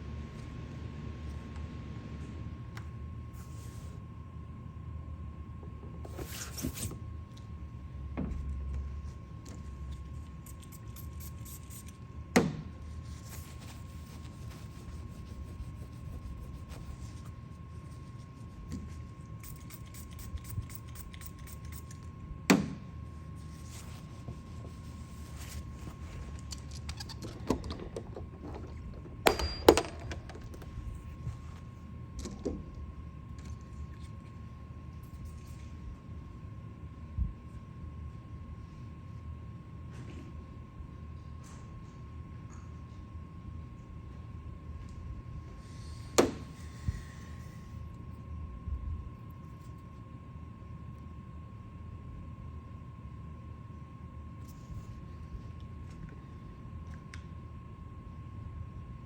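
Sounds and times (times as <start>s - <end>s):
faint high-pitched hum: 0.0s - 59.0s.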